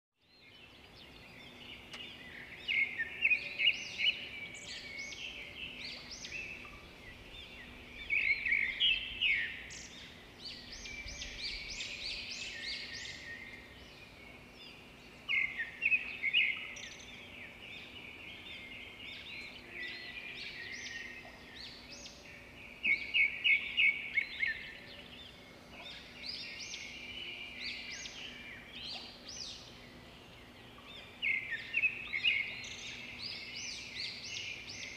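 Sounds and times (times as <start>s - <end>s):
birds chirping: 0.3s - 34.9s.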